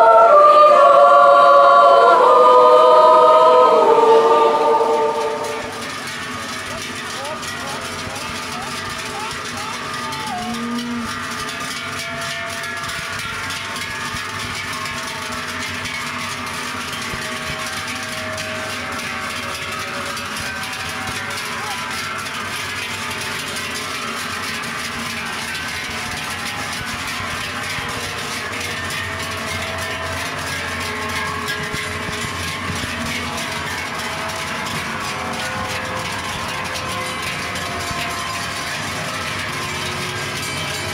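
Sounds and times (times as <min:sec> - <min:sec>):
cowbells clanging: 0:04.3 - 0:40.9.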